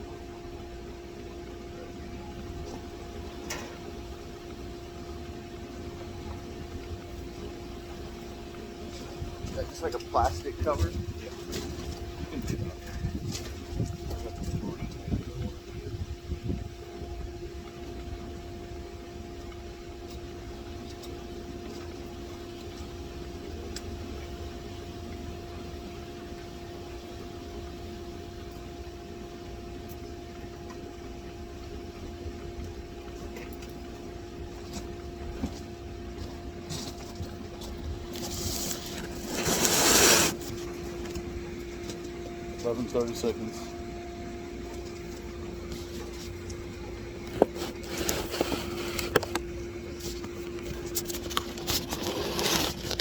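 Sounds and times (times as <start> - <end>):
air conditioner unit humming: 0.0 - 53.0.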